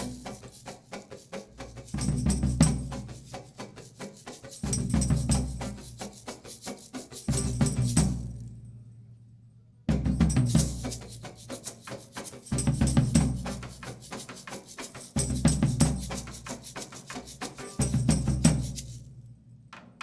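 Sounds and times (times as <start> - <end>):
instrumental cumbia music: 0.0 - 8.2, 10.1 - 19.0.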